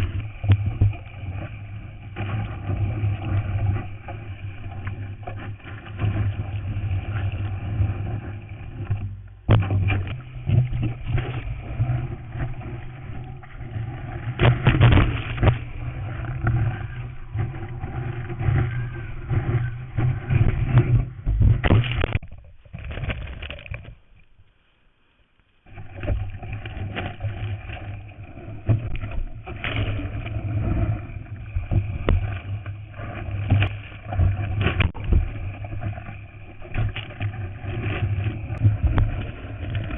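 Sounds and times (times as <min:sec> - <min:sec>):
water and wind rushing: 0:00.0 - 0:24.0, 0:25.6 - 0:39.9
water splashes and knocks: 0:00.0 - 0:24.1, 0:25.7 - 0:39.9.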